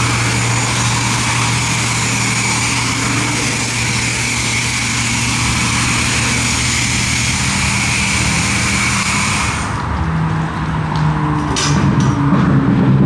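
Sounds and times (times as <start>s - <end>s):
car wash machine hissing: 0.0s - 13.0s
motor hum: 0.0s - 13.0s.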